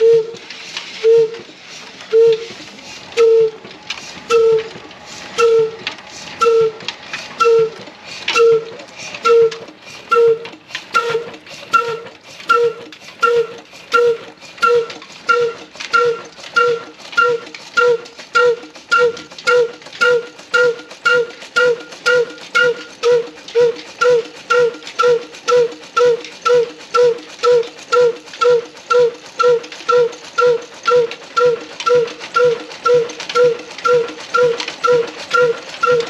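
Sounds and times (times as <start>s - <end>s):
diesel engine exhaust popping: 2.1s - 36.0s.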